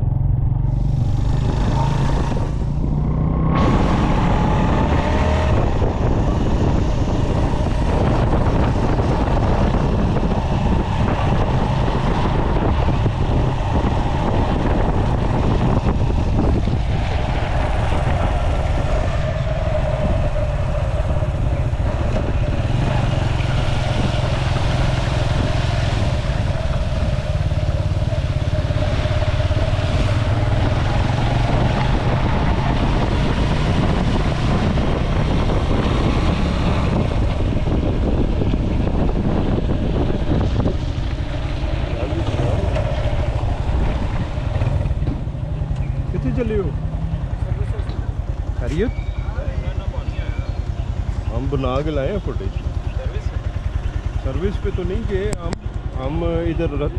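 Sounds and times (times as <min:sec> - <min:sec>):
motorcycle engine rumble: 0:00.0 - 0:56.9.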